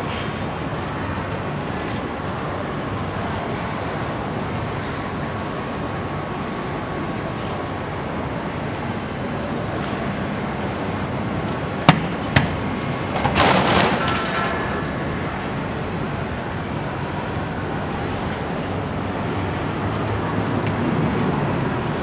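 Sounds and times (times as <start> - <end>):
crowd noise: 0.0 - 22.0.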